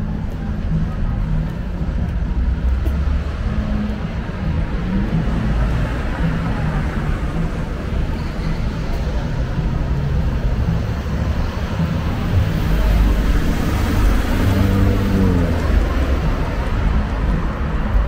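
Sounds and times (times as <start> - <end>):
cars driving past: 1.8 - 18.0.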